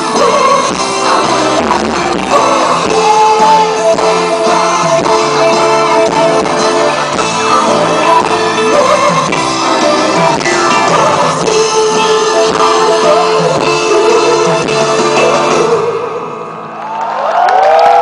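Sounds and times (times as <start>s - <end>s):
person singing: 0.0s - 16.5s
live rock band playing: 0.0s - 16.6s
electric guitar: 0.0s - 17.2s.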